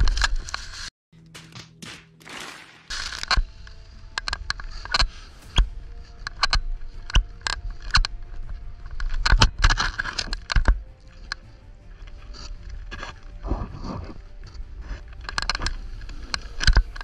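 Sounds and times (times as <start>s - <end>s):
low rumble: 2.9s - 17.0s.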